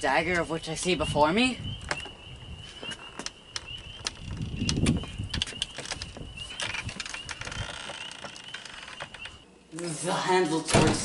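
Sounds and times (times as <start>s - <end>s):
faint high-pitched chirping: 0.2s - 9.5s.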